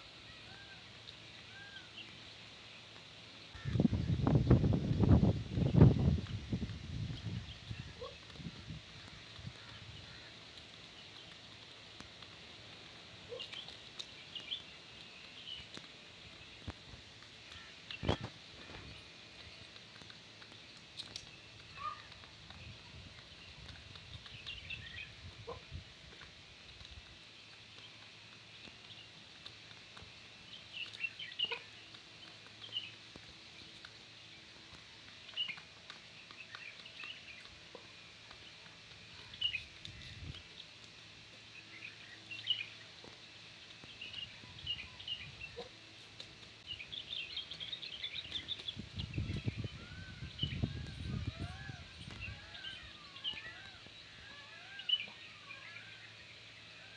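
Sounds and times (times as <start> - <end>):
beaks pecking on paved stone: 0.0 - 56.9
low steady hiss: 0.0 - 56.9
small birds chirping: 0.0 - 56.9.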